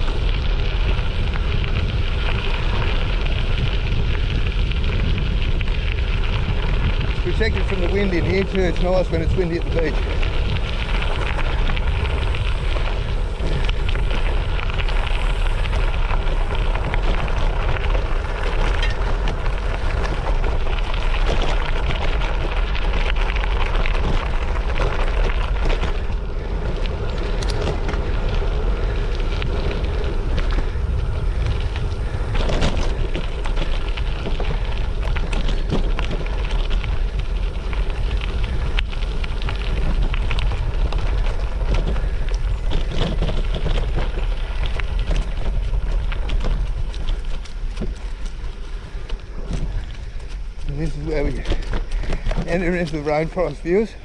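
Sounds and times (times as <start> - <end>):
bike tyres crunching on gravel: 0.0 - 54.0
wind noise on microphone: 0.0 - 54.0.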